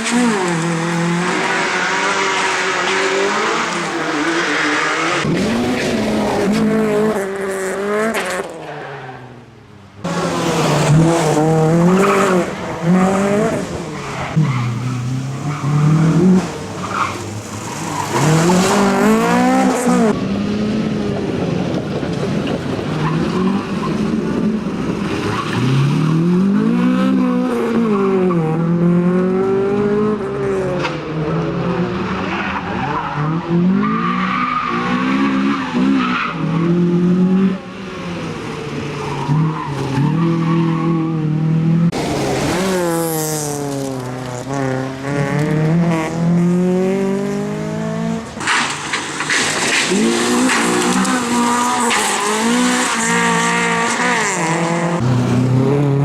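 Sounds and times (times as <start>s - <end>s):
rally car engine revving: 0.0s - 8.8s, 10.0s - 56.0s.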